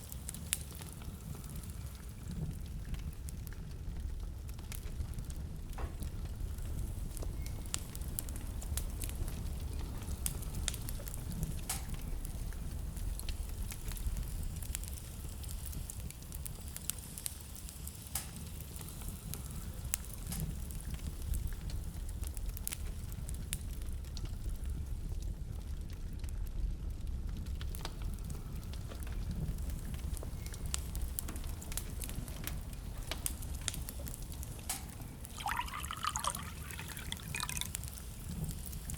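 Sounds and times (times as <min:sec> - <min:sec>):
fire pops and snaps: 0:00.0 - 0:38.9
wood fire crackling: 0:00.0 - 0:38.9.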